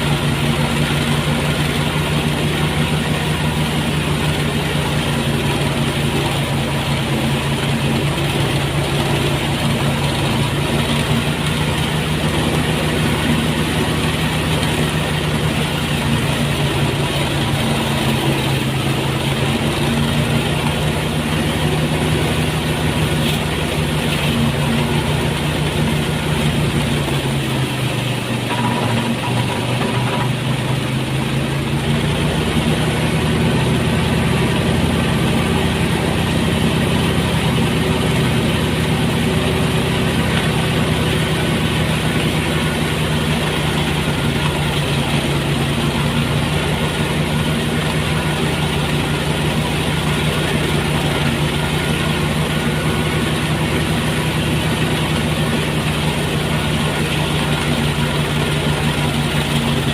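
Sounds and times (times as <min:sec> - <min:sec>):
threshing machine engine drone: 0:00.0 - 0:59.9.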